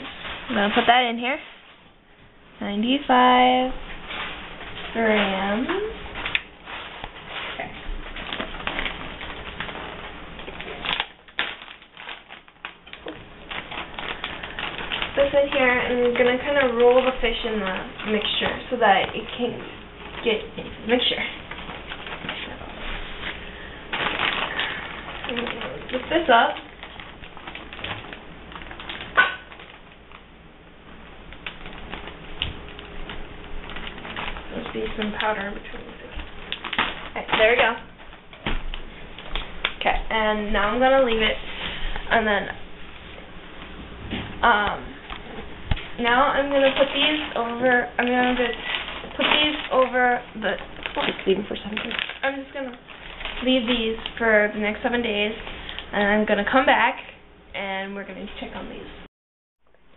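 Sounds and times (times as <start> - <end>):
plastic bag crinkling: 0.0 - 1.9, 2.8 - 58.8.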